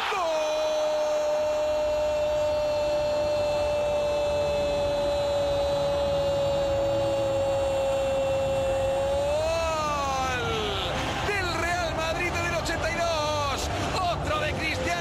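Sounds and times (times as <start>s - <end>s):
commentator shouting: 0.0s - 15.0s
stadium crowd noise: 0.0s - 15.0s.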